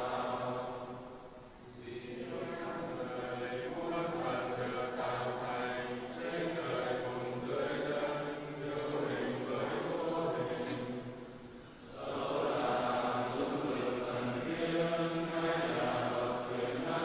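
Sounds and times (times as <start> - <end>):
men chanting in unison: 1.8 - 11.0, 11.9 - 17.0.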